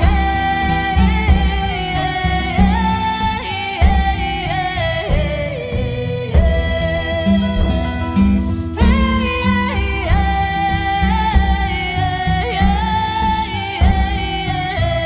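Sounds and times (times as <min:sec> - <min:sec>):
plucked strings and bass: 0:00.0 - 0:15.0.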